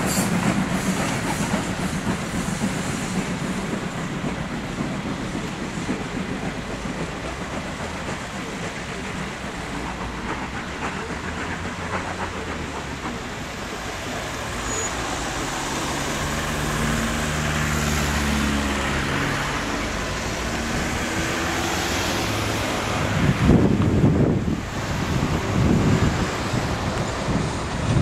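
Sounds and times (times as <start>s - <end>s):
cars and trucks passing: 0.0s - 28.0s
heavy vehicle engine: 0.0s - 28.0s.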